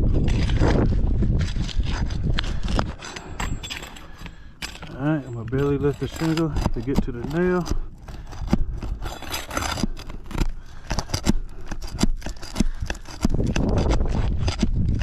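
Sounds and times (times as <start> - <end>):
roof shingle clicks and scrapes: 0.2 - 15.0.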